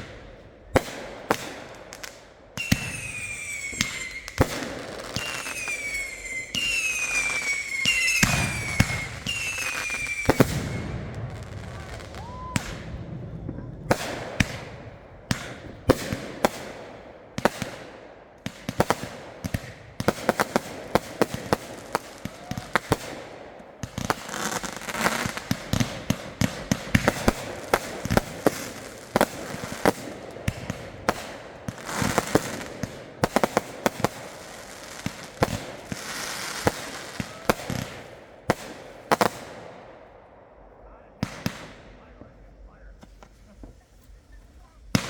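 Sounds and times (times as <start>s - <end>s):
fireworks banging: 0.0s - 39.7s, 41.2s - 45.0s
fireworks crackling: 0.0s - 39.8s, 41.2s - 45.0s.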